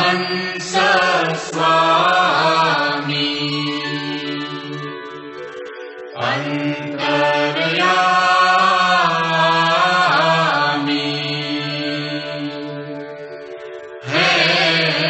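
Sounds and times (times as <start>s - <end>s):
voices chanting long sung notes: 0.0s - 15.0s.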